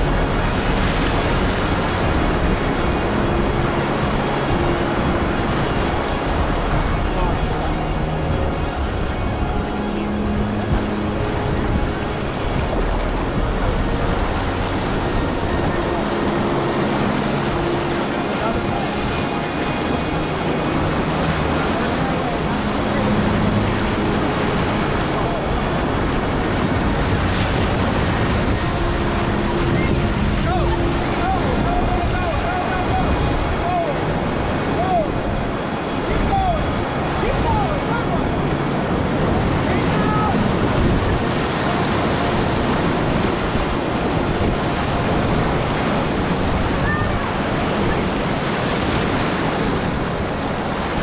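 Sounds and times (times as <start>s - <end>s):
river rapid rushing: 0.0s - 51.0s
wind buffeting microphone: 0.0s - 51.0s.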